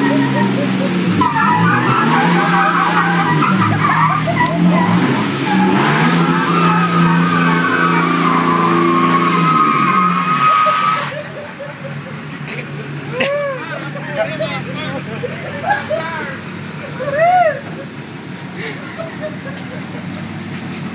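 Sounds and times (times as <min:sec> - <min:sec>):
diesel engines droning: 0:00.0 - 0:20.9
tyres spinning and squealing: 0:00.0 - 0:20.9.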